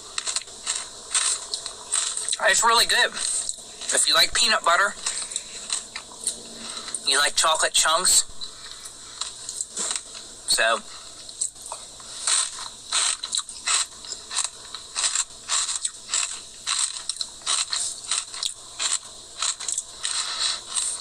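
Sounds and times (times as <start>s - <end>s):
crunchy chewing: 0.0s - 4.0s, 4.8s - 7.1s, 8.4s - 21.0s.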